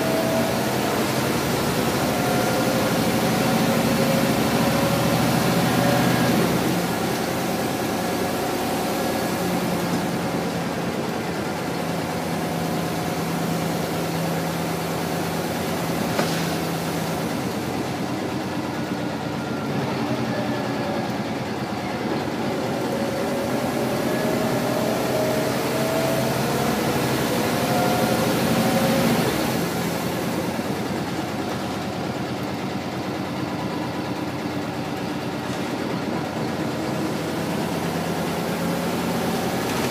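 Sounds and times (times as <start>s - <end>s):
bus engine whine: 0.0s - 39.9s.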